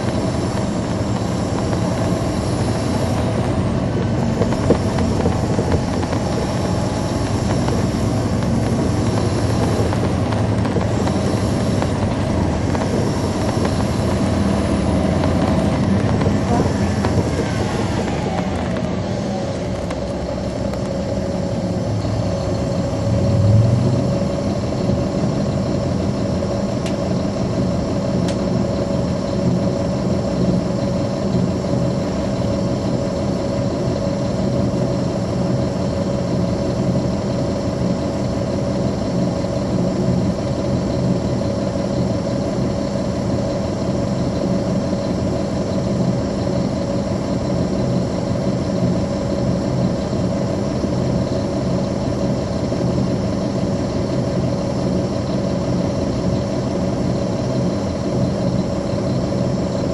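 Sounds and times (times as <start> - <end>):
bus diesel engine droning: 0.0 - 59.9
engine whine: 0.0 - 59.9.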